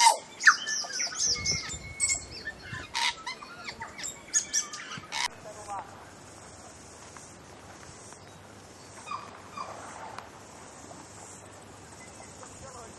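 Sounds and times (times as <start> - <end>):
steady outdoor hiss: 0.0 - 12.9.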